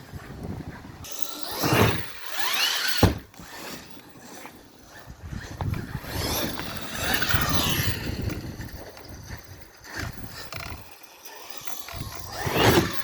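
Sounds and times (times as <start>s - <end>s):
tyre and drivetrain noise: 0.0s - 13.0s
rc truck motor whine: 0.2s - 13.0s.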